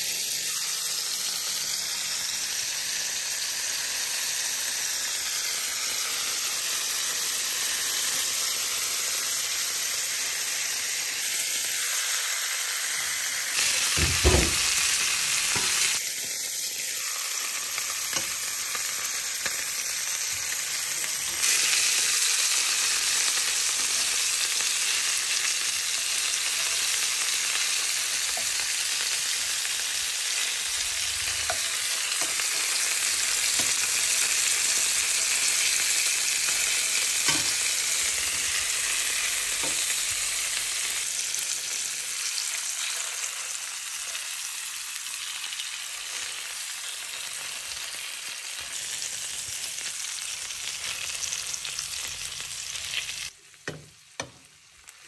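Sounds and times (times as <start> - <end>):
meat sizzling in a pan: 0.0 - 55.0.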